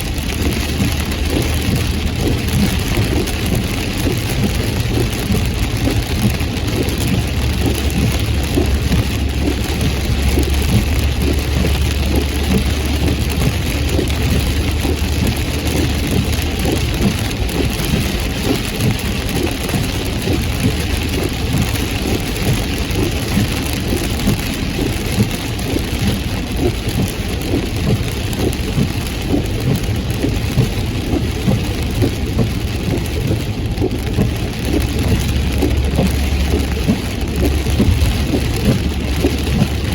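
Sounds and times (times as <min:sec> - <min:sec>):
engine and road noise: 0:00.0 - 0:39.9
heavy rain on a car: 0:00.0 - 0:39.9.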